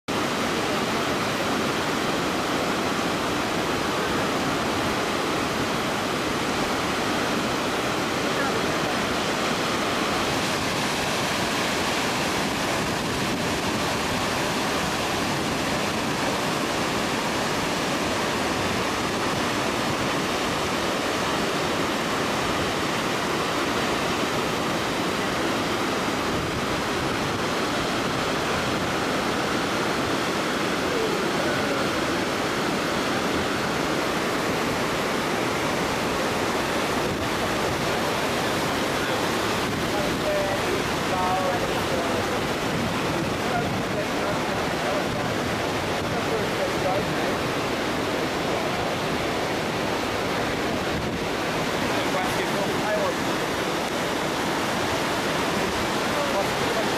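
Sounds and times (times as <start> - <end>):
waterfall rushing: 0.1 - 56.9.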